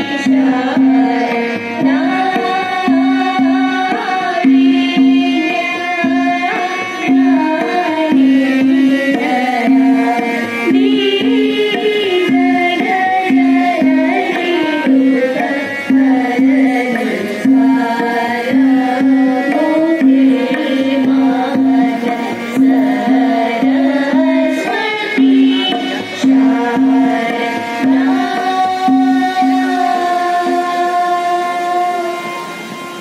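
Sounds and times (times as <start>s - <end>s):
girls singing devotional song: 0.0s - 32.2s
harmonium: 0.0s - 33.0s
tabla rhythm: 0.0s - 33.0s.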